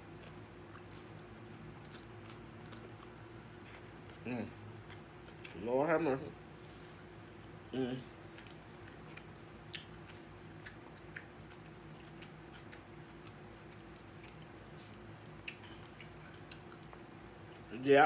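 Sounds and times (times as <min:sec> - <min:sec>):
faint chewing: 0:00.0 - 0:05.7, 0:08.2 - 0:17.9
steady low hum: 0:00.0 - 0:18.0.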